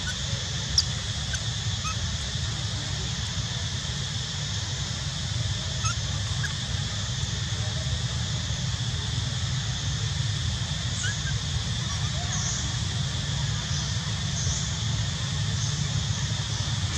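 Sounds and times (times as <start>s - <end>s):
low rumble with hiss: 0.0s - 16.9s.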